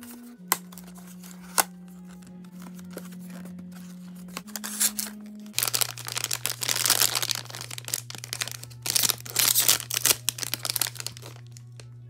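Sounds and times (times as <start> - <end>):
packaging crinkling and tearing: 0.0 - 11.8
background music low sustained notes: 0.0 - 12.0.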